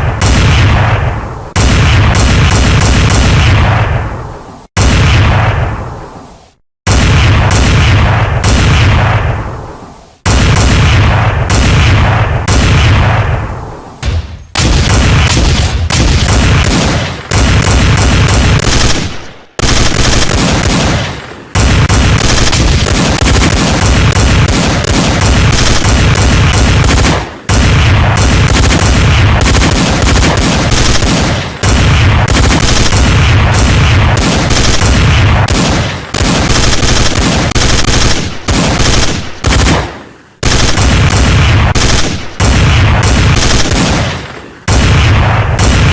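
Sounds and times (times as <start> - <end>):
machine gun fire: 0.0 - 4.0, 10.3 - 13.4, 14.6 - 45.9.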